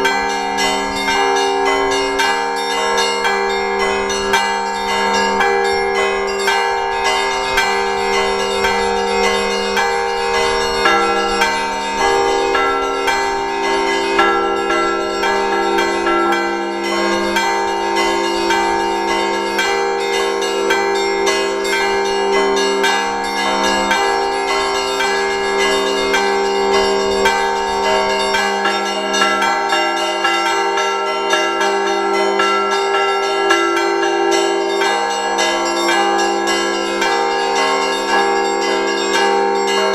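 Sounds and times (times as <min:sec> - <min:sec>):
large bells ringing: 0:00.0 - 0:39.9
small church bells ringing quickly: 0:00.0 - 0:39.9.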